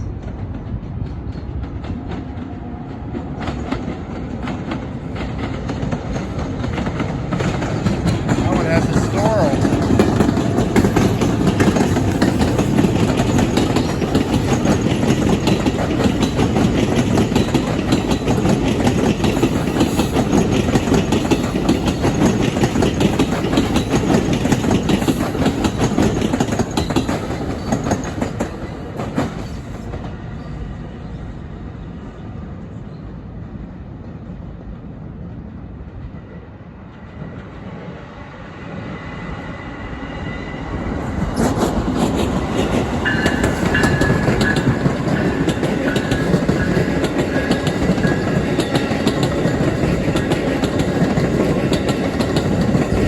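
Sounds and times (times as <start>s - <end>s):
train wheels clattering on rails: 0.0s - 30.8s, 40.6s - 53.0s.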